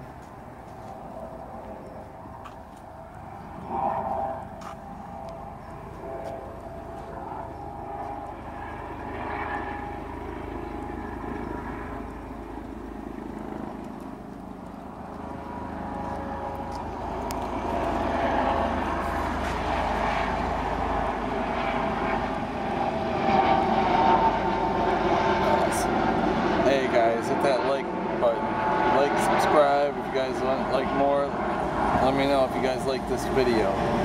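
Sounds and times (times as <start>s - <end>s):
road traffic drone: 0.0s - 34.0s.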